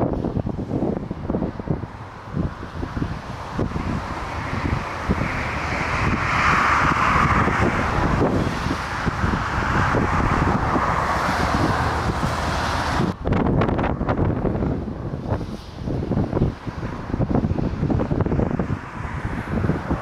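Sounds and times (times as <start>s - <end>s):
jet airliner engine noise: 0.0s - 20.0s
wind buffeting microphone: 0.0s - 20.0s.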